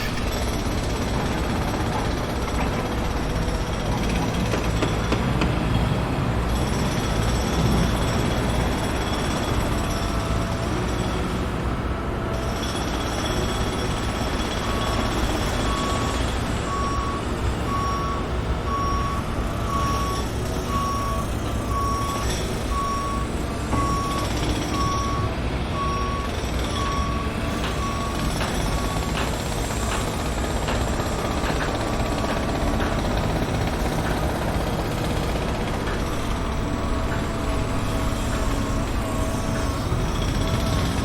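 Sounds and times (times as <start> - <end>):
reversing alarm beeping: 6.5 - 41.0.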